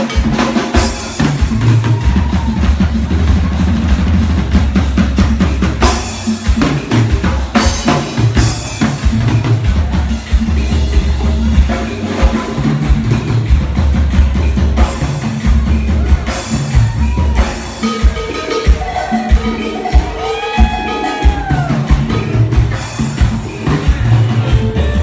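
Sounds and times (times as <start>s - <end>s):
bass guitar: 0.0s - 25.0s
drum kit kick and snare: 0.0s - 25.0s
keyboards: 0.0s - 25.0s.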